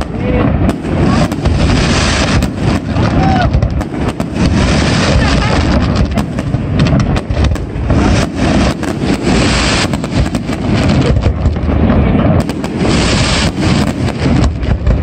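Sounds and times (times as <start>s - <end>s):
fireworks bangs: 0.0s - 15.0s
low rumble: 0.0s - 15.0s.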